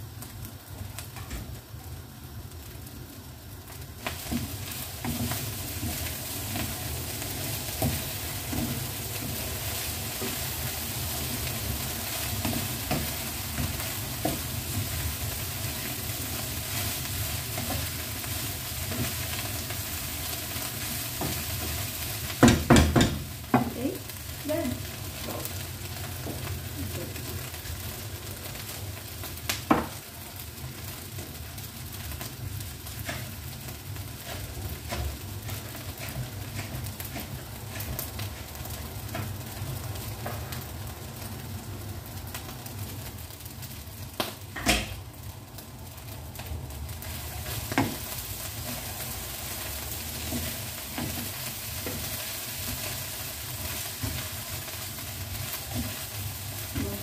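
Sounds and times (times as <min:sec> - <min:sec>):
rice sizzling in a wok: 0:00.0 - 0:57.0.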